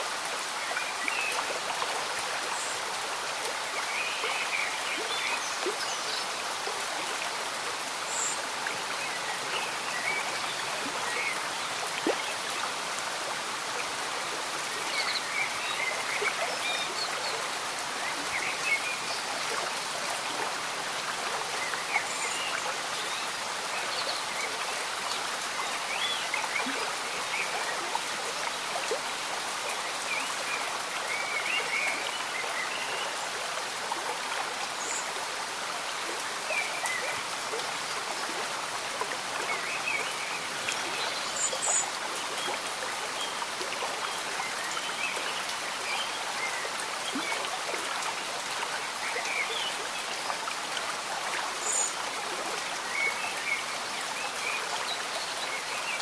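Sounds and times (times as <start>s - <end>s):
light rain on foliage: 0.0s - 56.0s
stream bubbling and gurgling: 0.0s - 56.0s.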